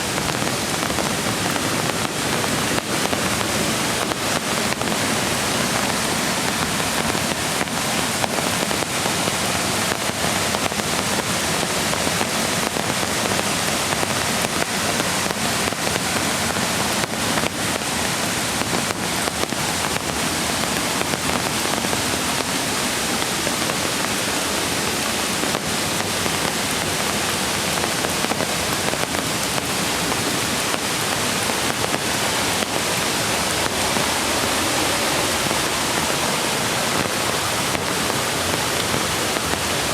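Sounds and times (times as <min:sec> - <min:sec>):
creek rushing: 0:00.0 - 0:39.9
rain hissing: 0:00.0 - 0:39.9.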